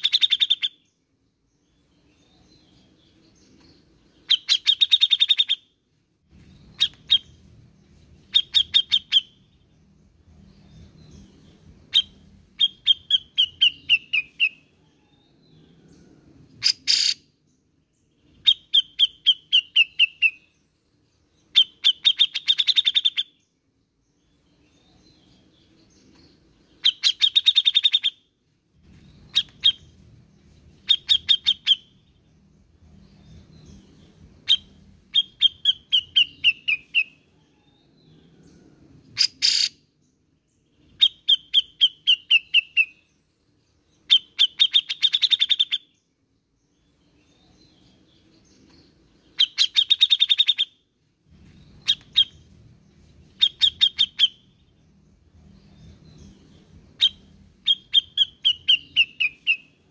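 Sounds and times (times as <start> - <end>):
bird chattering song: 0.0 - 15.8, 16.6 - 17.4, 18.0 - 20.6, 21.2 - 28.3, 28.9 - 38.4, 39.1 - 40.0, 40.6 - 59.9.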